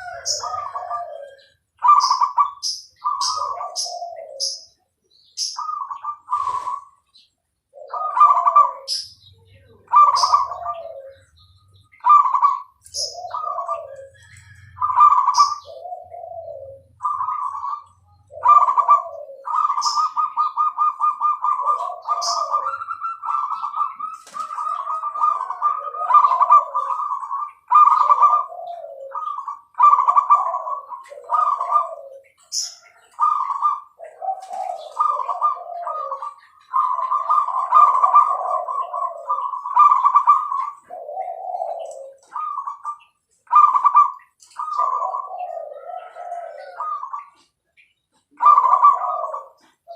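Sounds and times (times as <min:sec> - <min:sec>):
dove cooing: 0:00.0 - 0:49.9.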